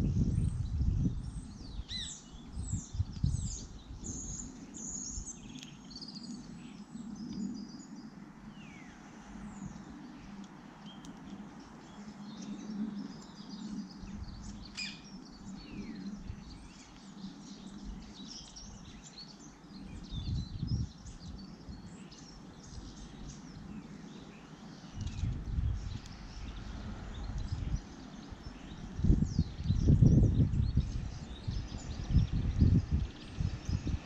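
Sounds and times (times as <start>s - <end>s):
birds chirping and singing: 0.0s - 34.0s.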